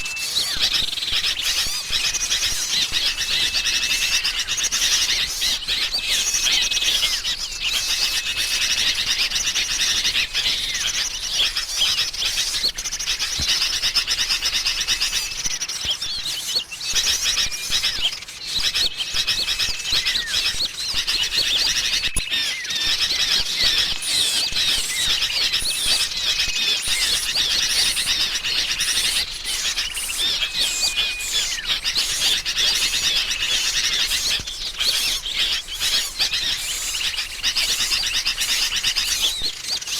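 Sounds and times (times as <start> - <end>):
bulbul chatter: 0.0 - 39.9
small songbirds chirping: 0.0 - 39.9.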